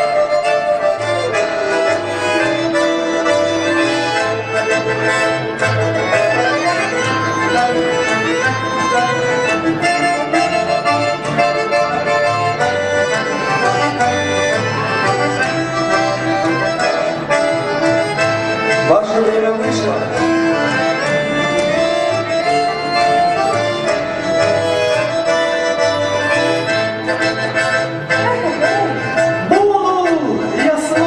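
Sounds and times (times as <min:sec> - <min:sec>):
accordion melody: 0:00.0 - 0:31.0.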